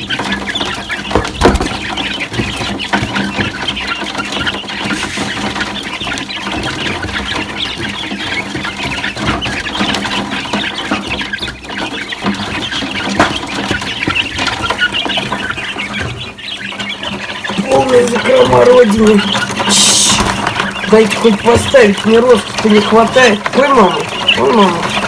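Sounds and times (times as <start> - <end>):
young chickens clucking and cheeping: 0.0 - 25.0.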